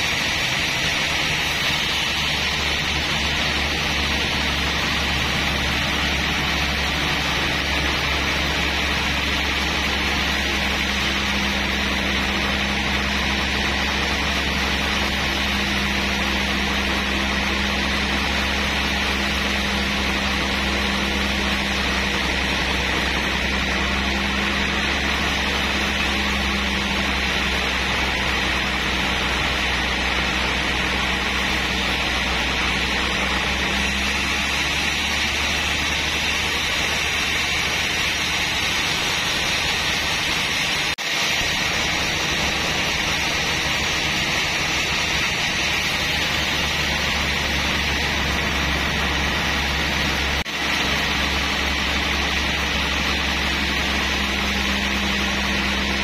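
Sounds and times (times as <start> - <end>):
band sawmill sawing a log: 0.0 - 56.0
low hum: 0.0 - 56.0.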